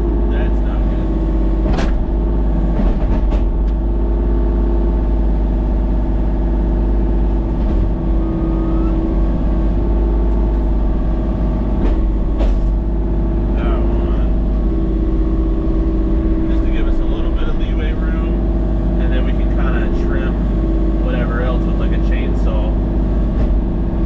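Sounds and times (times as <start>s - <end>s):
machine engine running: 0.0s - 24.0s.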